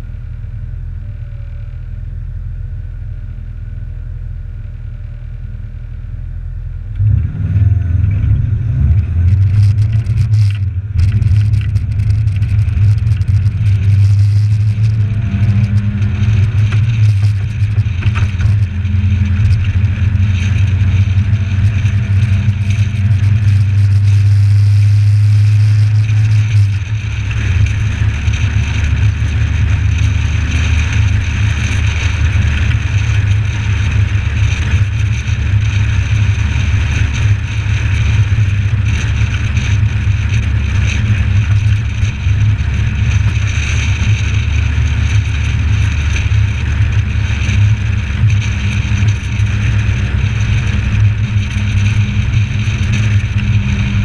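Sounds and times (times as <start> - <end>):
road and wind noise: 0.0 - 54.0
car engine pulling away: 6.8 - 54.0.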